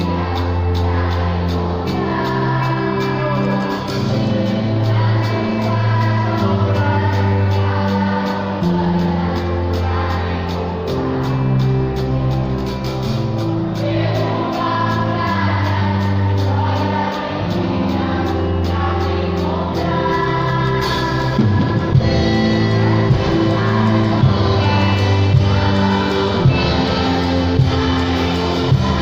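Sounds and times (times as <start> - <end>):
band accompaniment: 0.0 - 29.0
choir singing worship song: 0.0 - 29.0.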